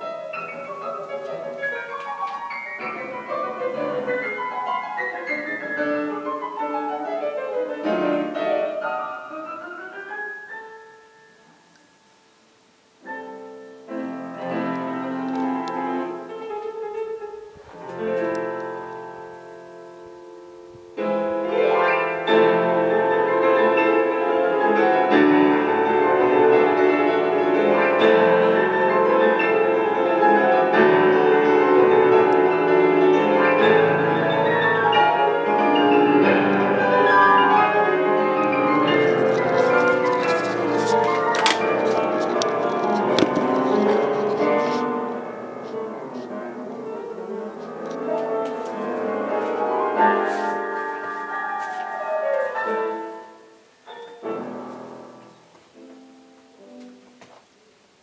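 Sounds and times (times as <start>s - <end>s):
piano music: 0.0s - 57.2s.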